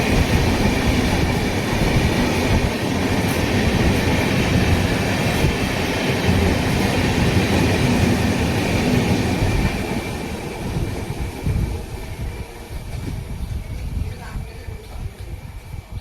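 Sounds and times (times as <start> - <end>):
train passing on rails: 0.0 - 16.0.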